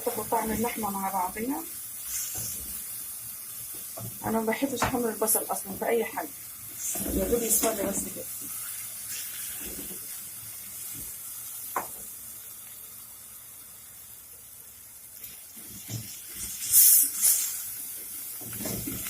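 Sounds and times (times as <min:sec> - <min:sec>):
onion sizzling in a pot: 0:00.0 - 0:19.0.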